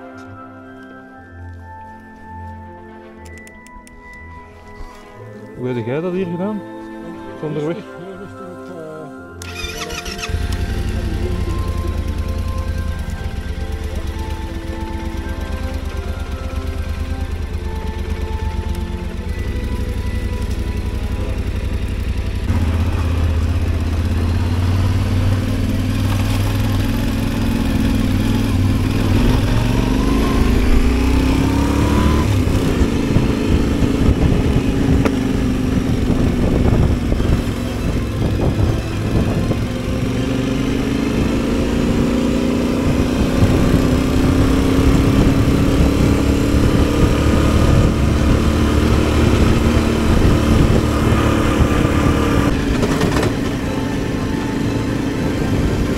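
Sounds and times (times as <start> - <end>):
motorcycle engine revving: 9.4 - 55.9.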